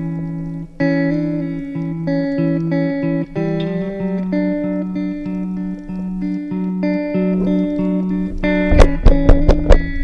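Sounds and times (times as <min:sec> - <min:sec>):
guitar music: 0:00.0 - 0:10.0.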